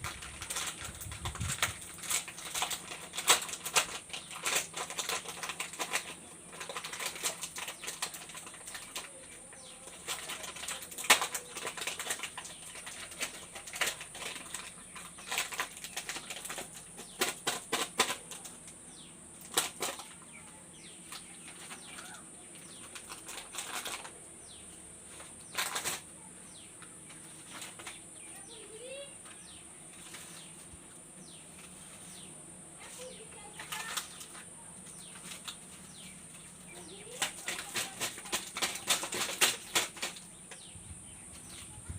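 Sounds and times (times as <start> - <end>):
candy wrappers crinkling: 0.0 - 18.8, 19.4 - 24.3, 25.1 - 29.1, 32.8 - 40.7.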